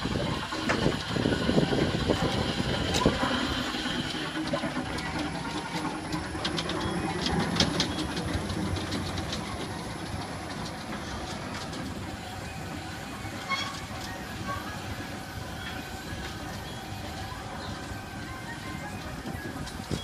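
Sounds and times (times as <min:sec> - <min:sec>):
ride car rumbling along rail: 0:00.0 - 0:20.0.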